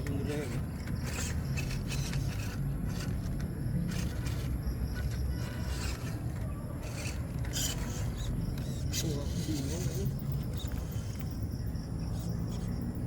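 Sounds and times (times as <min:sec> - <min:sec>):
small electric drivetrain running: 0:00.0 - 0:13.0
tyres scraping over ground: 0:00.0 - 0:13.0.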